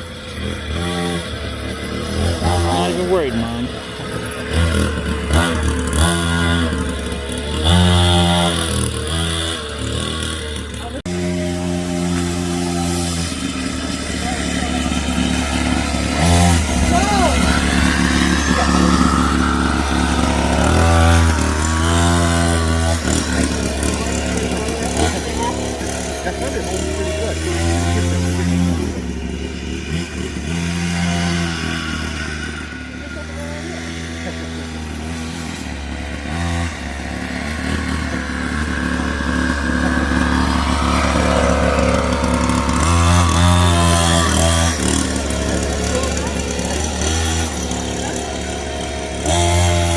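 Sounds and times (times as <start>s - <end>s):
small motorbike engine buzzing: 0.0s - 49.9s.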